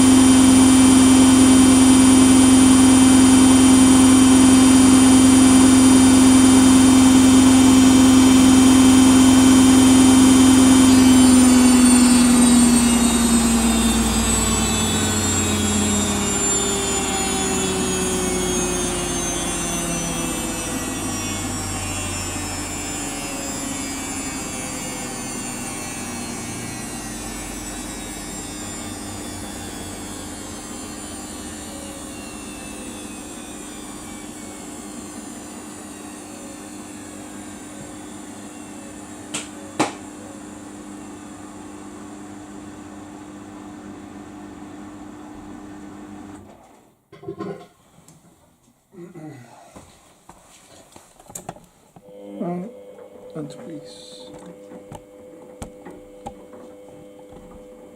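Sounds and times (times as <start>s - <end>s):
washing machine motor whine: 0.0s - 47.7s, 51.3s - 57.9s.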